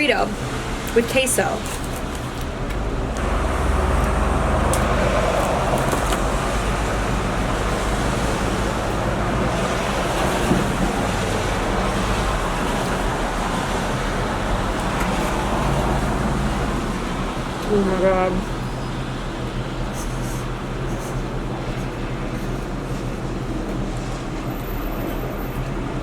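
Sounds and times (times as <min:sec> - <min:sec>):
low rumbling background noise: 0:00.0 - 0:26.0.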